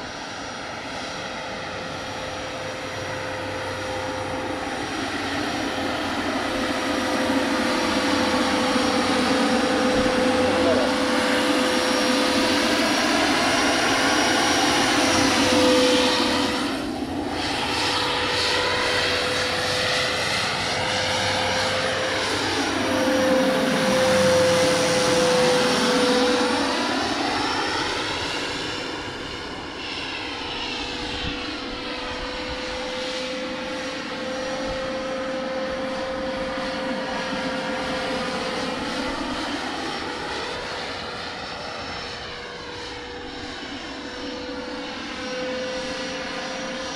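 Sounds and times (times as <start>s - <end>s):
model helicopter whine: 0.0s - 46.9s.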